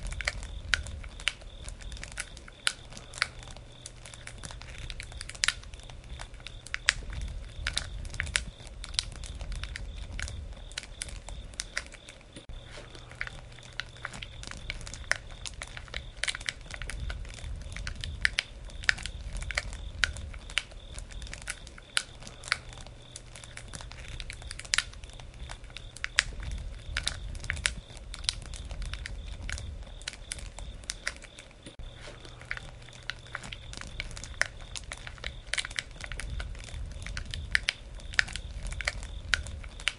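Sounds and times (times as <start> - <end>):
low rumble of flames: 0.0 - 39.9
wood crackling and popping: 0.0 - 39.9.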